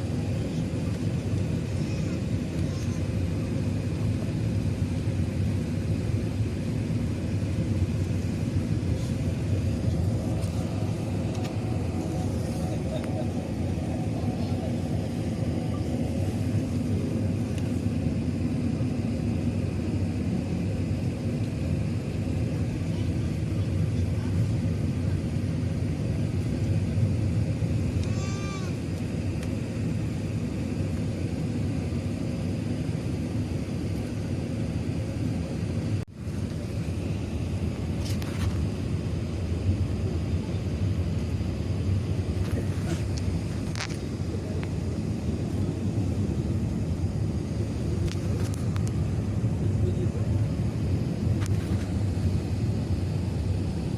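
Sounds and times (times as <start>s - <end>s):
airplane cabin rumble: 0.0s - 53.9s.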